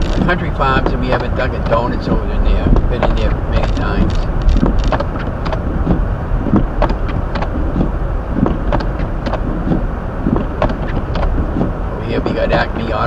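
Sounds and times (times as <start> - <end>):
low road and engine rumble: 0.0 - 13.0
windshield wipers swishing: 0.0 - 13.0.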